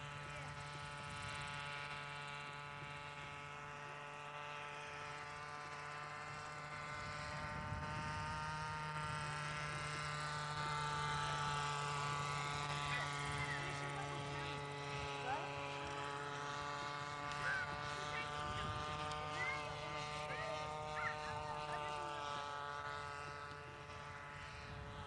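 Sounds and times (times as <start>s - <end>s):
model helicopter whine: 0.0s - 25.0s.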